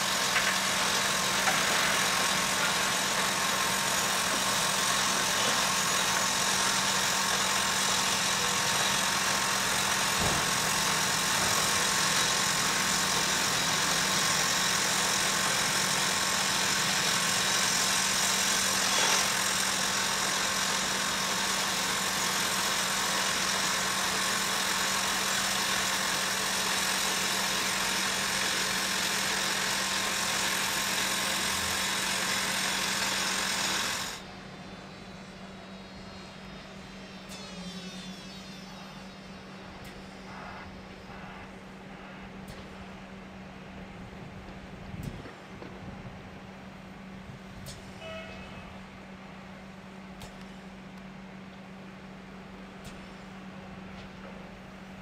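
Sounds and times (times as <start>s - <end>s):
diesel engines running: 0.0s - 36.0s, 38.8s - 55.0s.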